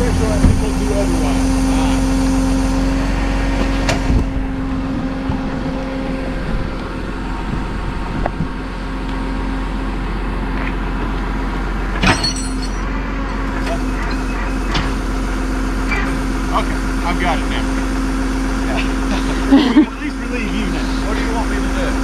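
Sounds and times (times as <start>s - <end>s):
tow truck engine idling: 0.0s - 12.0s, 12.6s - 22.0s.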